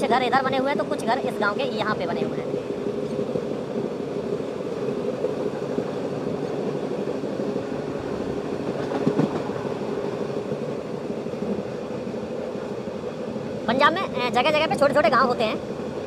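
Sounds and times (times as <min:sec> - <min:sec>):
train rumble and hum: 0:00.0 - 0:16.0.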